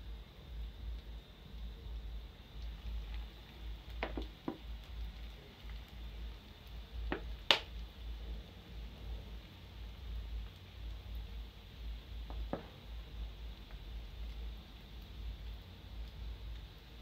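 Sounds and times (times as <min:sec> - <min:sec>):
dough sizzling in hot oil: 0:00.0 - 0:17.0.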